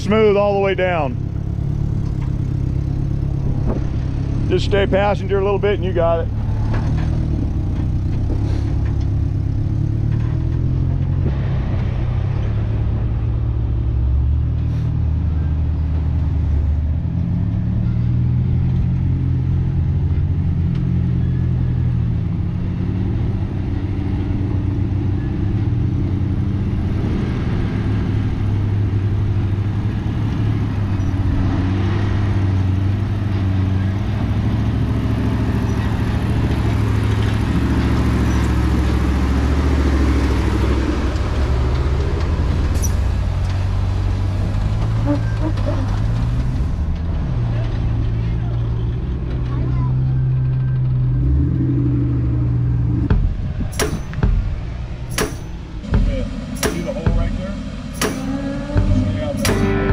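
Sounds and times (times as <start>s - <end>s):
off-road vehicle engine at low revs: 0.0s - 59.9s.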